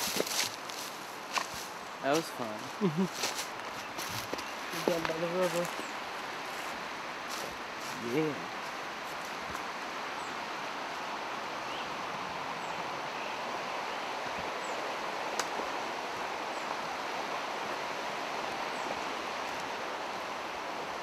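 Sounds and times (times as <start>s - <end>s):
river rapids rushing: 0.0s - 3.6s, 4.2s - 21.0s.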